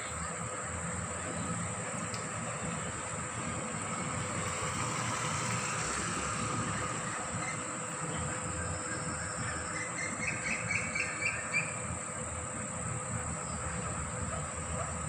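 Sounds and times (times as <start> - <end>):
high-pitched insect drone: 0.0 - 14.7.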